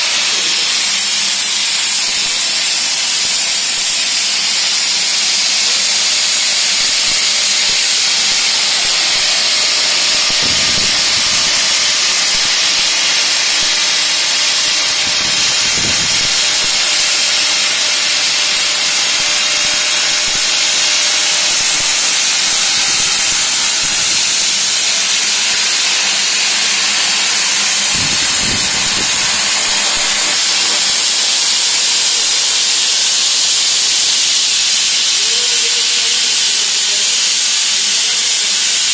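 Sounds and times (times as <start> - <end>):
plasma cutting torch hissing: 0.0 - 38.9.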